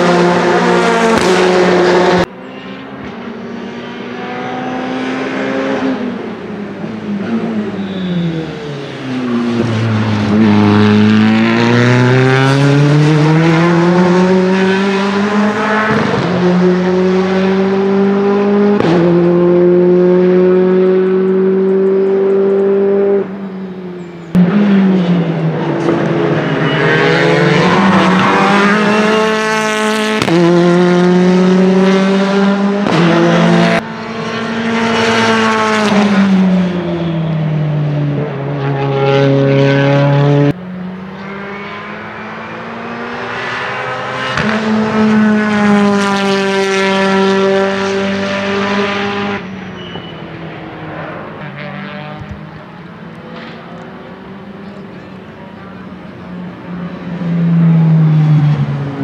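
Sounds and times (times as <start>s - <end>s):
race car engines running hard: 0.0s - 59.0s.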